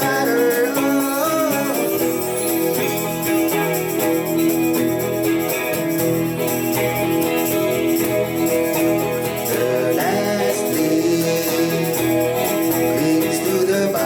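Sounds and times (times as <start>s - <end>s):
instrumental band music with guitar: 0.0s - 14.0s.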